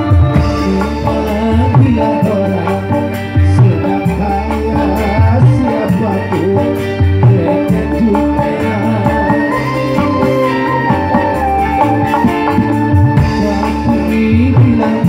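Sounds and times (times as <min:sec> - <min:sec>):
live band instrumental: 0:00.0 - 0:15.0.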